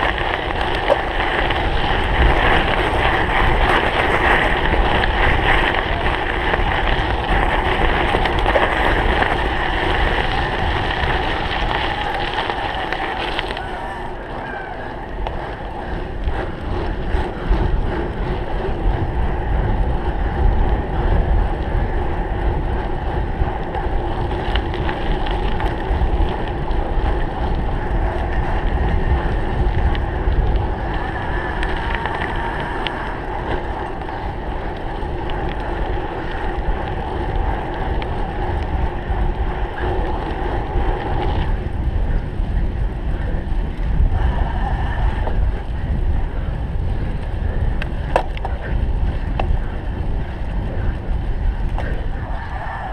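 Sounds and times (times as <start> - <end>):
bike frame and chain rattling: 0.0 - 52.9
bike tyre noise: 0.0 - 52.9
wind buffeting microphone: 0.0 - 52.9.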